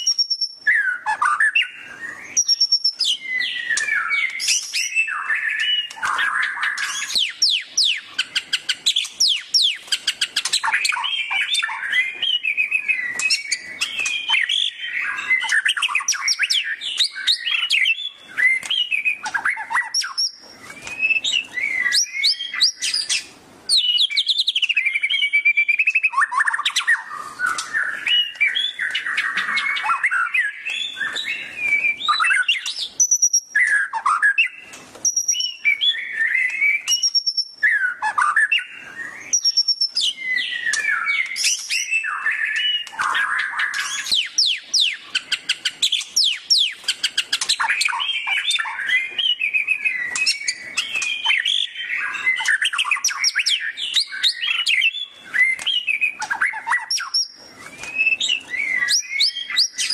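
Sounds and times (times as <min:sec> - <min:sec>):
bird singing trills and whistles: 0:00.0 - 0:59.9.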